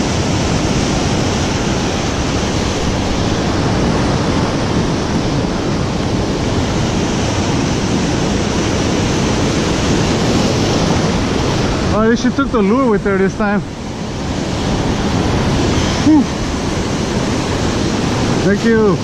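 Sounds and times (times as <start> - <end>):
surf washing over rocks: 0.0 - 19.0.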